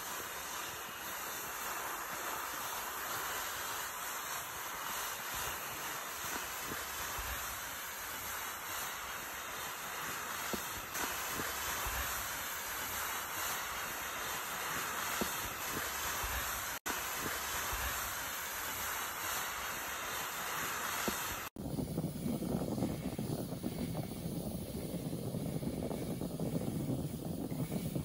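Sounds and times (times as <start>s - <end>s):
sled scraping over snow: 0.0s - 28.0s.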